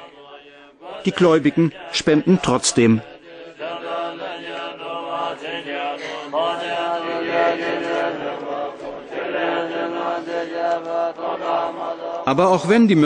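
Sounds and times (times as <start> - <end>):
monks chanting: 0.0 - 13.0.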